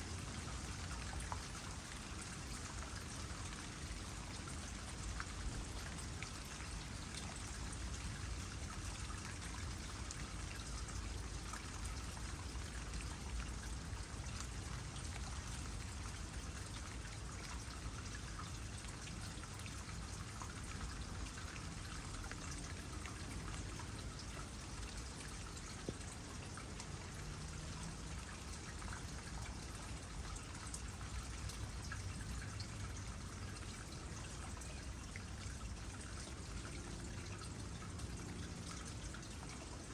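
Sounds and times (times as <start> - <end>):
light rain on water: 0.0 - 39.9
water trickling into pond: 0.0 - 39.9.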